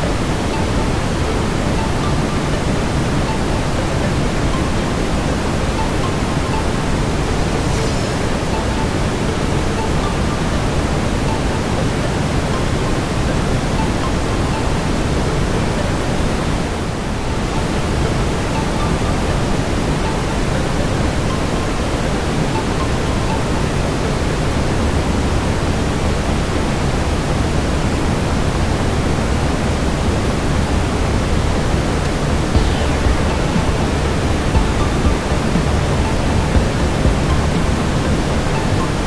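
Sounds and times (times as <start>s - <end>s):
brown noise: 0.0s - 39.0s.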